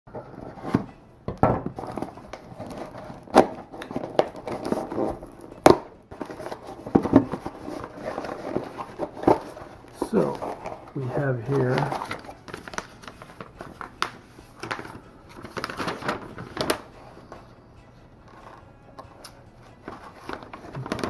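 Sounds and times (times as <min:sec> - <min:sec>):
rustling and crinkling: 0:00.1 - 0:17.5, 0:18.2 - 0:21.0.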